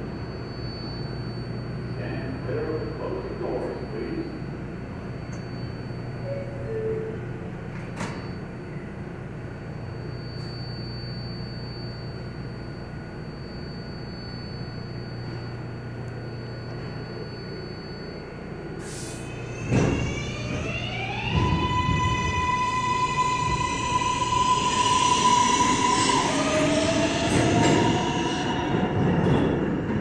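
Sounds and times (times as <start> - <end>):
subway train humming: 0.0 - 30.0
electric traction motor whine: 0.3 - 30.0.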